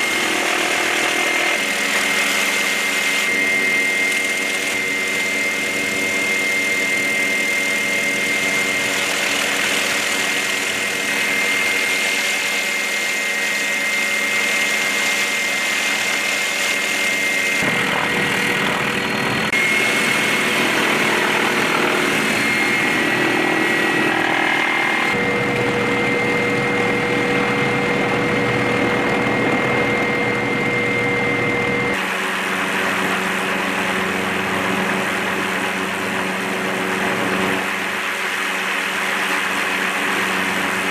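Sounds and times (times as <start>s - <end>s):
helicopter turbine engine whine: 0.0s - 40.9s.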